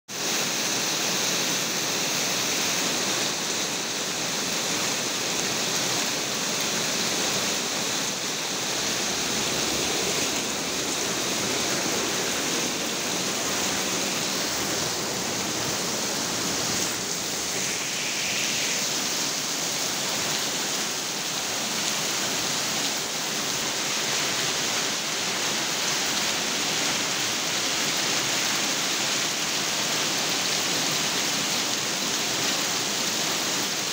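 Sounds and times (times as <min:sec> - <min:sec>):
hail and heavy rain falling: 0:00.7 - 0:33.9.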